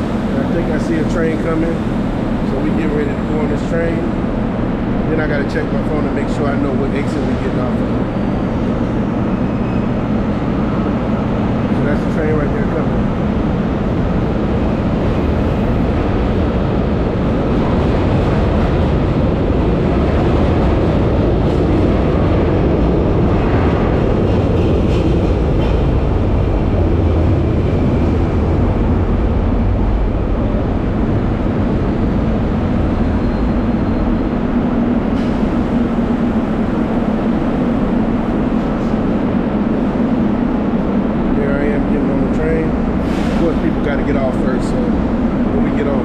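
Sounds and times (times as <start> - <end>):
low hum of slowing train: 0.0 - 46.0
metro train rumbling: 0.0 - 46.0.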